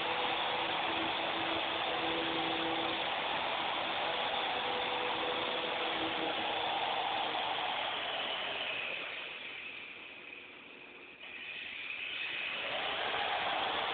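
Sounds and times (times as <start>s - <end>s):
toy helicopter rotors whirring: 0.0s - 10.6s, 11.2s - 13.9s.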